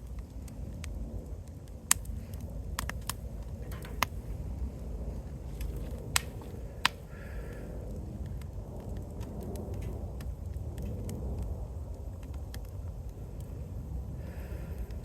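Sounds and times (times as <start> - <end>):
steady low rumble: 0.0 - 15.0
wood fire crackling: 0.0 - 15.0.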